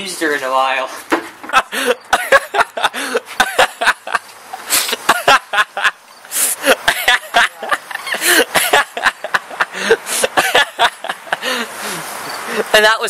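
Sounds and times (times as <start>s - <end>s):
man laughing loudly: 1.4s - 12.8s.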